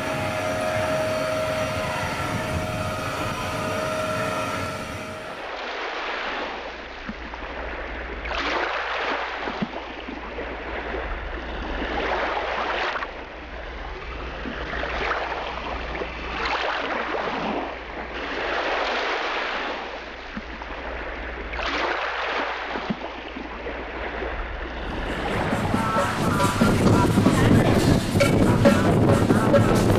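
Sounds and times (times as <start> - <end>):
small waves breaking on beach: 0.0 - 27.9.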